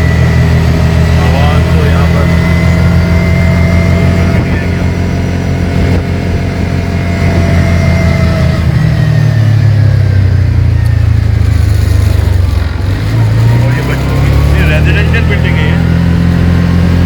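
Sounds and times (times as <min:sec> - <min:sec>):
dune buggy engine running: 0:00.0 - 0:17.0.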